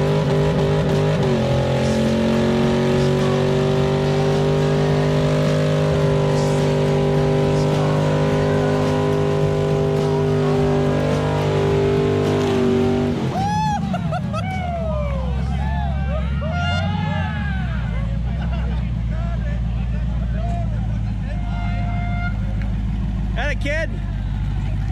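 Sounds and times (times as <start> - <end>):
truck engine at high revs: 0.0 - 24.9.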